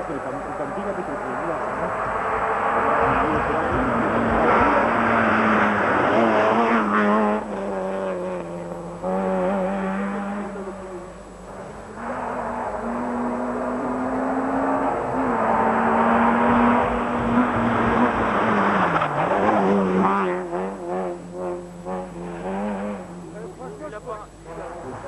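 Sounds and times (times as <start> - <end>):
rally car engines revving: 0.0 - 25.0.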